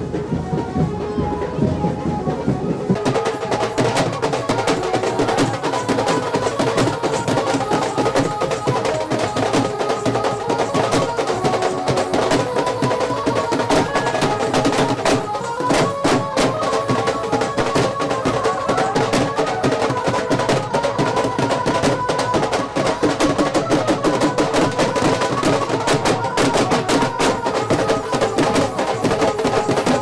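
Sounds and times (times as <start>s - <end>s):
held melody line: 0.0s - 30.0s
large drums beaten fast: 0.0s - 30.0s.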